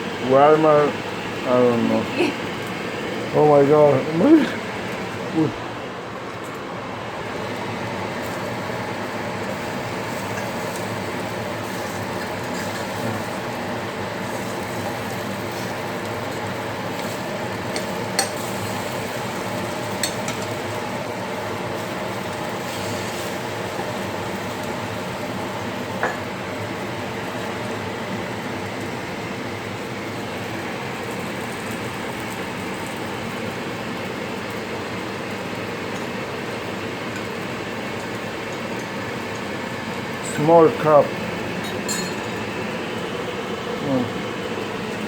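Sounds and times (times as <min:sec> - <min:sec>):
coffee maker hissing and sizzling: 0:00.0 - 0:45.0.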